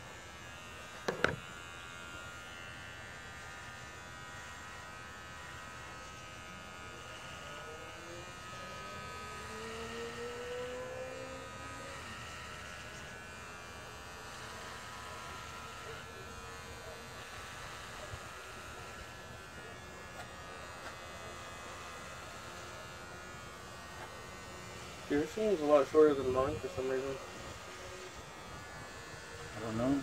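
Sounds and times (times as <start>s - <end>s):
electric hair clippers buzzing: 0.0s - 30.0s.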